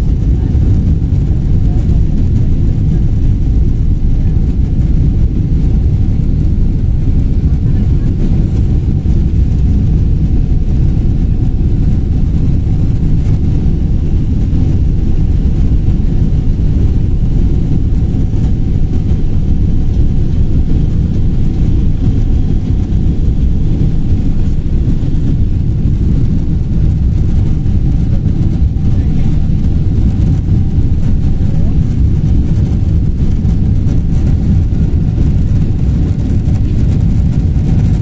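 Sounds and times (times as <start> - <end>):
jet engines rumbling in cabin: 0.0 - 38.0.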